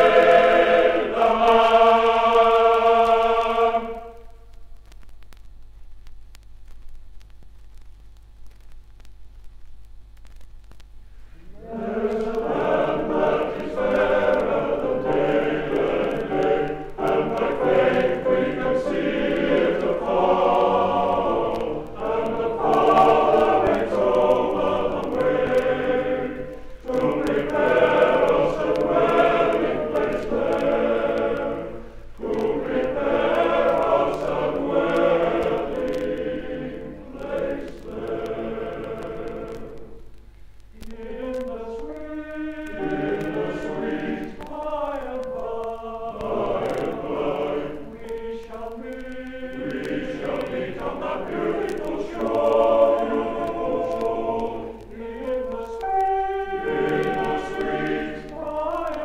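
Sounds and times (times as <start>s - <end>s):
male choir singing: 0.0s - 4.1s, 11.5s - 40.0s, 40.8s - 59.0s.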